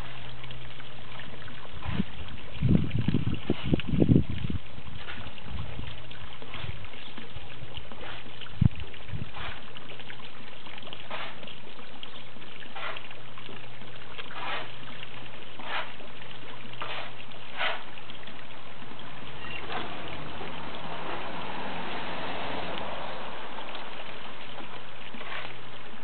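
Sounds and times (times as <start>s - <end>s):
water trickling: 0.0s - 26.0s
fish splashing: 4.6s - 26.0s.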